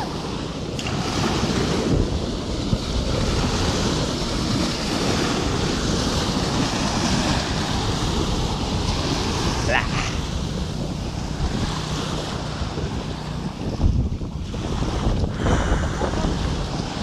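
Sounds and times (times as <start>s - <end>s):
small waves on sandy shore: 0.0s - 17.0s
wind buffeting microphone: 0.0s - 17.0s.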